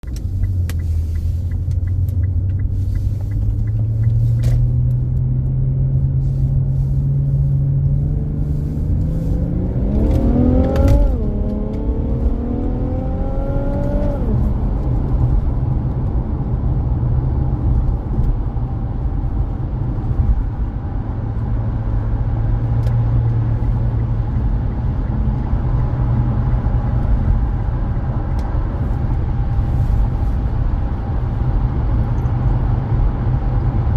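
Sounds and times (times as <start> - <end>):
car engine accelerating: 0.0 - 33.9.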